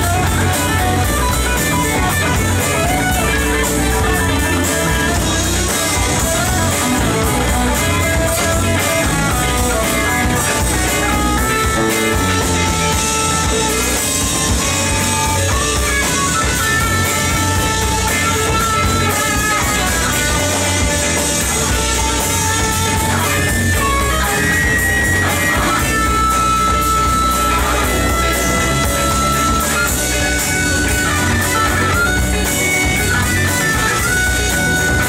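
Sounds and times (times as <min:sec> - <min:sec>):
electric guitar melody: 0:00.0 - 0:35.0
live rock band playing: 0:00.0 - 0:35.0.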